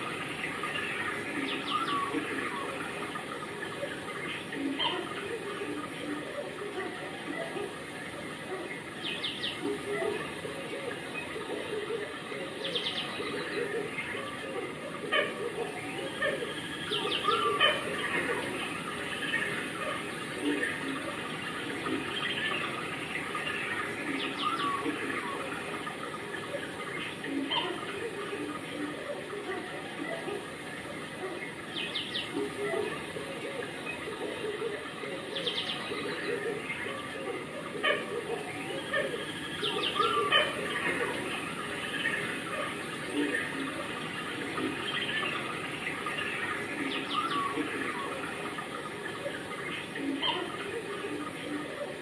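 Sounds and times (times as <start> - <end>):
background chatter of onlookers: 0.0 - 52.0
distant voices: 0.0 - 52.0
steady background hiss: 0.0 - 52.0.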